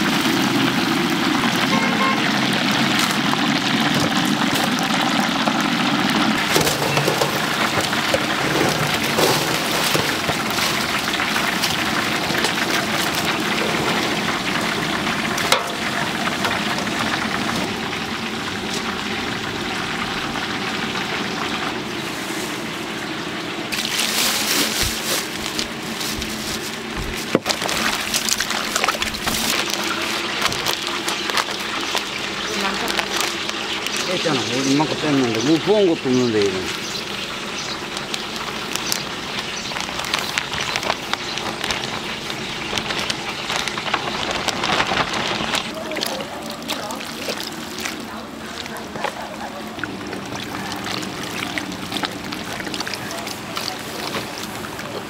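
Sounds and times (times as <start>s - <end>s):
oil sizzling and crackling: 0.0s - 55.0s.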